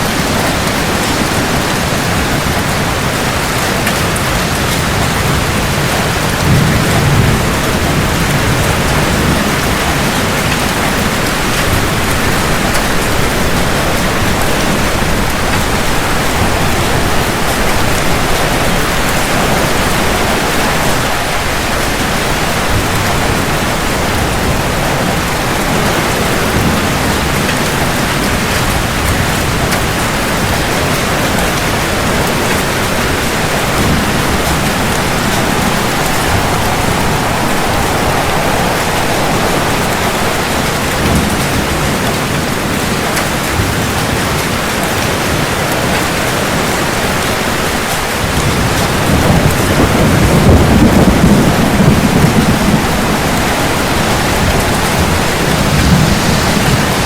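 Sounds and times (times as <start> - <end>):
heavy rain falling: 0.0 - 57.0
low thunder rumble: 0.0 - 57.0.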